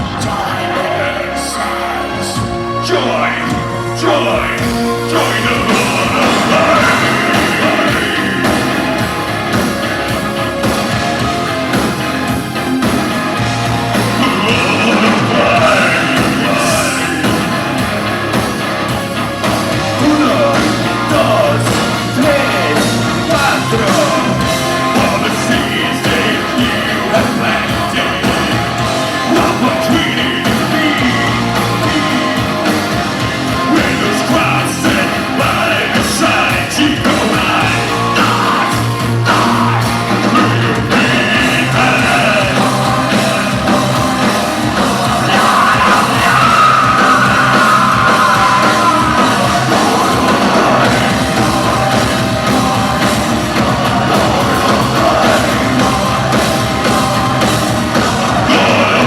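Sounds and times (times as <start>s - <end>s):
metal band playing live: 0.0s - 59.0s
singing and yelled vocals: 0.0s - 59.0s.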